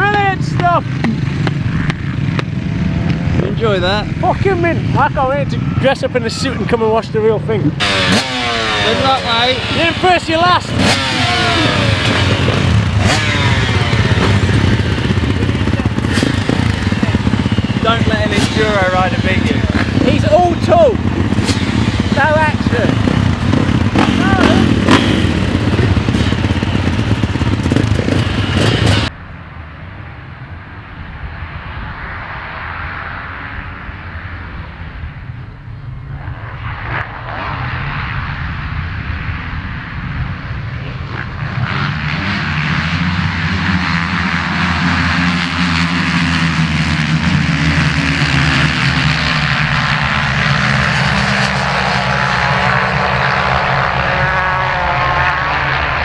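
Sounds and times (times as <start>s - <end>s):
distant motocross bikes racing: 0.0s - 29.1s, 36.8s - 56.0s
close-up motorcycle engine noise: 0.0s - 29.2s, 33.2s - 56.0s.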